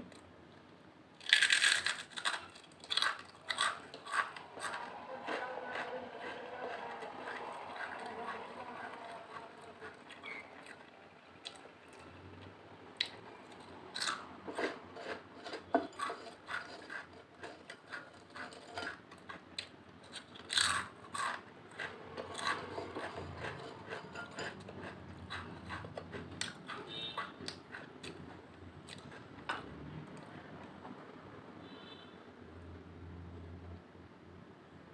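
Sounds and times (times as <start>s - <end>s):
chewing potato chips: 1.2s - 30.3s.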